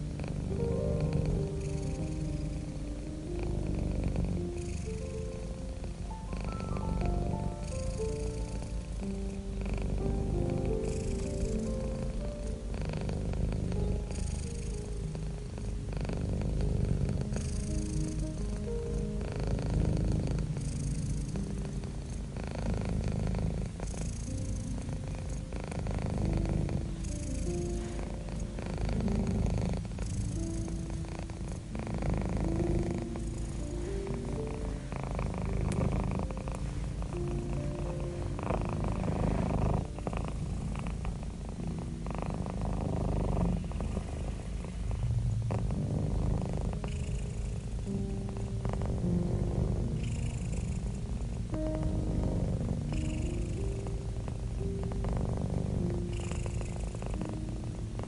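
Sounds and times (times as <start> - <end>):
cat purring: 0.0 - 58.0
soft held music notes: 0.0 - 58.0.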